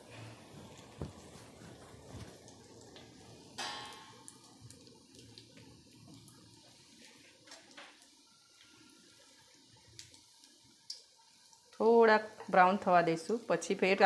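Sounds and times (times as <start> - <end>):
oil sizzling with crackles and pops: 0.0 - 14.0.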